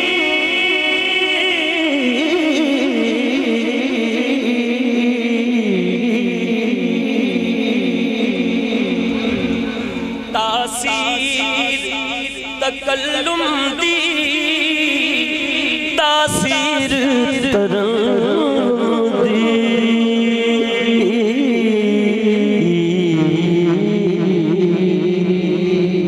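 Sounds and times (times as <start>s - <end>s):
man singing through microphone: 0.0s - 26.0s.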